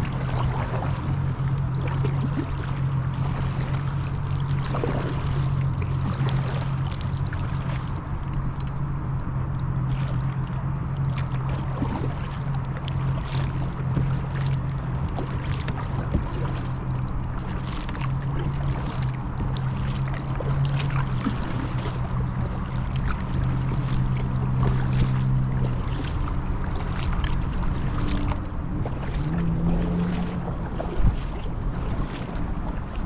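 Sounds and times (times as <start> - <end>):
paddle splashing and dripping: 0.0 - 33.0
steady low hum: 0.0 - 33.0
water washing along hull: 0.0 - 33.0.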